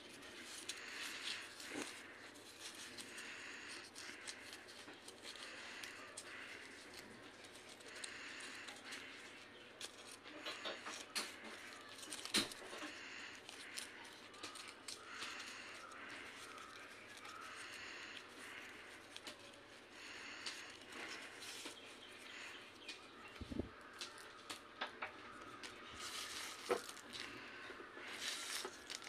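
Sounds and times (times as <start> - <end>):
paper rustling and crinkling: 0.0 - 29.0.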